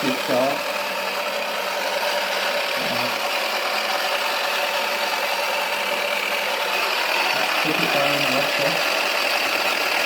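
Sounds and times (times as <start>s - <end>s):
small electric motor running: 0.0s - 10.0s.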